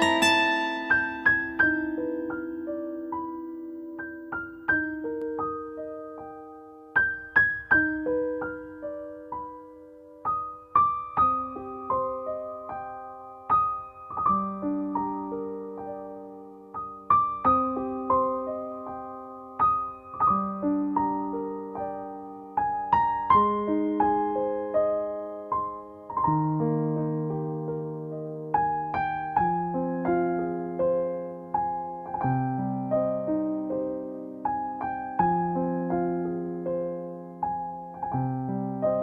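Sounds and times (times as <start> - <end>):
slow gentle piano music: 0.0 - 39.0.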